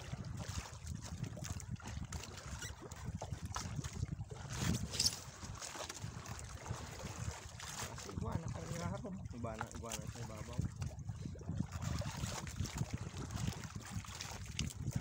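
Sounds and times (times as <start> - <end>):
water lapping against hull: 0.0 - 15.0
wind on microphone: 0.0 - 15.0.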